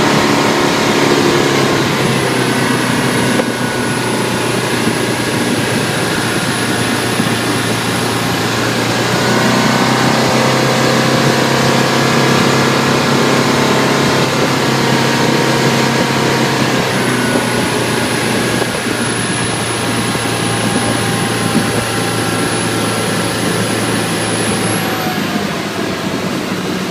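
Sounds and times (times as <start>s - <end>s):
high-pitched squeal: 0.0s - 26.5s
boat engine running: 0.0s - 26.9s.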